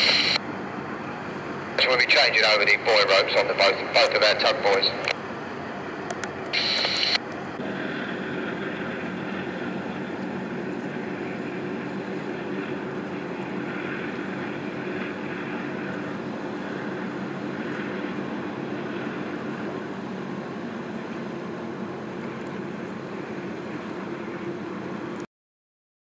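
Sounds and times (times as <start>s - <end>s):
diesel engines droning: 0.0s - 25.2s
faint steady hum: 0.0s - 25.2s.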